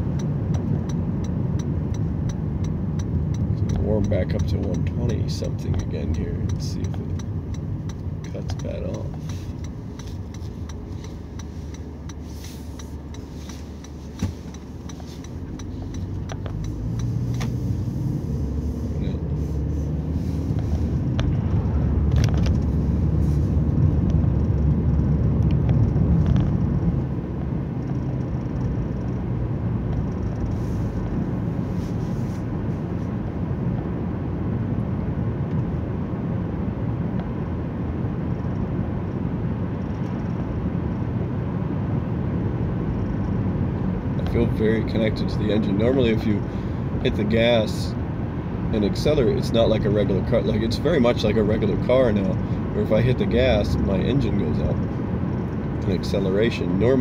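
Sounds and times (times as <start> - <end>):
car engine rumble: 0.0 - 57.0
road noise inside car: 0.0 - 57.0.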